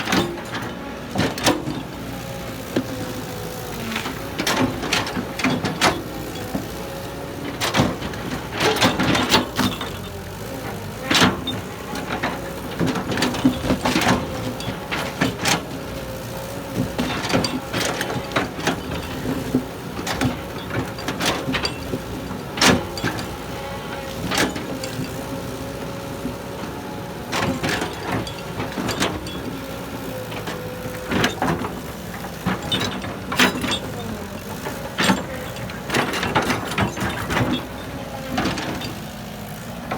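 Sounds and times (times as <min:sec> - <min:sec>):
heavy machinery running: 0:00.0 - 0:39.9.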